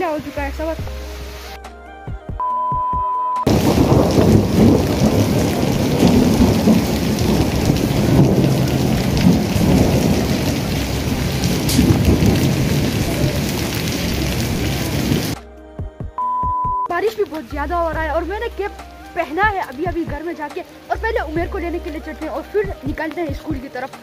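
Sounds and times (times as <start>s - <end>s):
heavy rain pouring: 0.0s - 1.6s, 3.5s - 15.4s, 17.0s - 24.0s.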